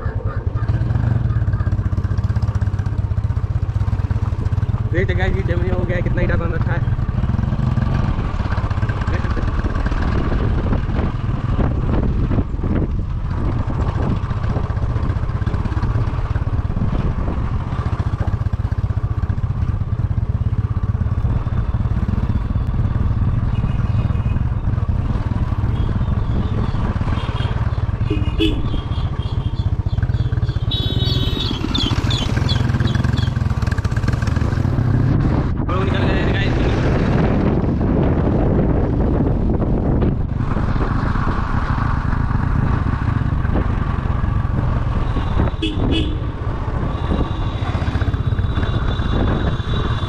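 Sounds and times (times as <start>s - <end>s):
vehicle engine rumbling: 0.0s - 50.0s.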